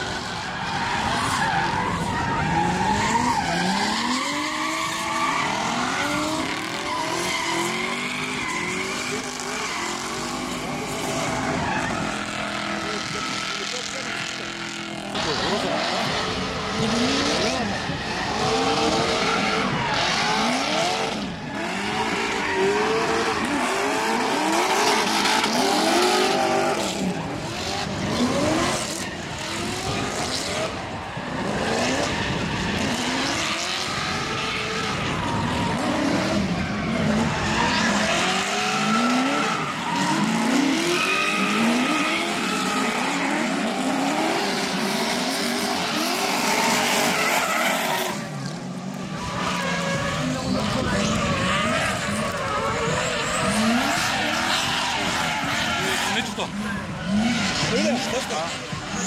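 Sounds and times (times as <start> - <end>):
car engines revving hard: 0.0 - 59.0
tyres squealing and skidding: 0.0 - 59.0.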